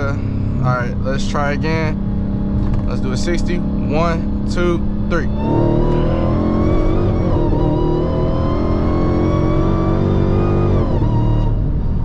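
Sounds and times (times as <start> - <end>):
car engine revving at full throttle: 0.0 - 12.0.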